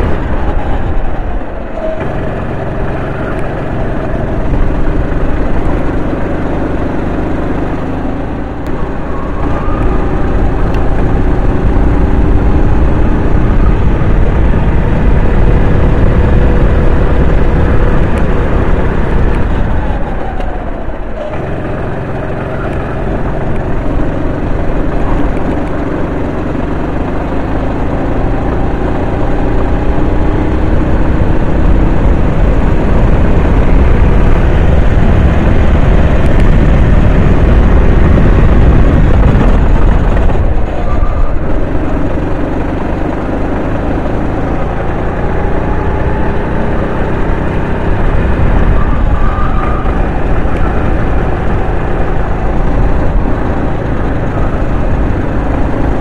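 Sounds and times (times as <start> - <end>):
go-kart engine at high revs: 0.0 - 56.0.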